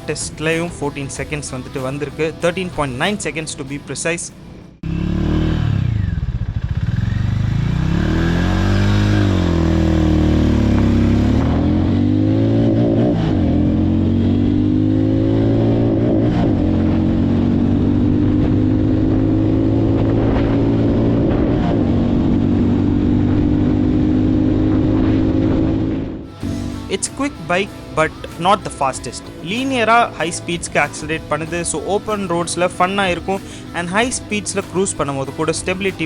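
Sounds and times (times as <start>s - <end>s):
motorcycle engine accelerating: 4.3s - 36.0s.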